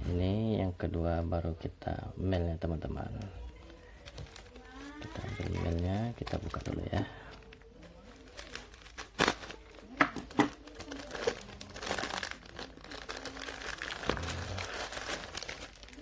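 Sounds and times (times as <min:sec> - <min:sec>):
plastic bag crinkling: 0:02.8 - 0:16.0.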